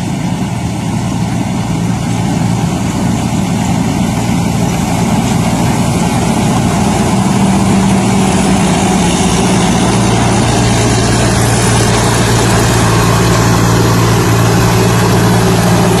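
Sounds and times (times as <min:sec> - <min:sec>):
harvester engine hum: 0:00.0 - 0:16.0
machinery clatter and rush: 0:00.0 - 0:16.0.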